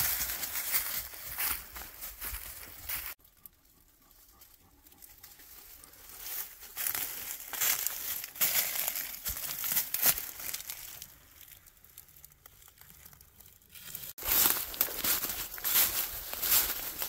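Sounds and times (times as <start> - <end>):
footsteps crunching dry leaves: 0.0 - 3.2, 5.2 - 17.0.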